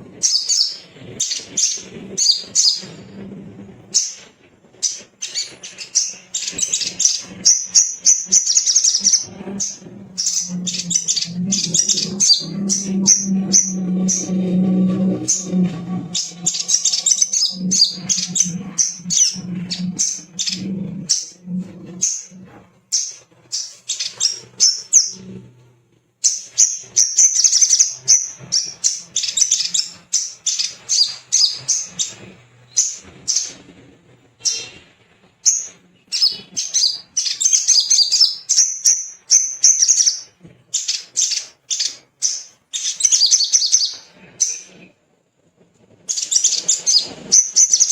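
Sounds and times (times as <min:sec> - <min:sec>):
faint low hum: 0:00.0 - 0:47.9
bird chips and trills: 0:00.2 - 0:03.1, 0:04.8 - 0:14.5, 0:15.1 - 0:25.2, 0:26.2 - 0:33.6, 0:35.4 - 0:44.7, 0:46.1 - 0:47.9.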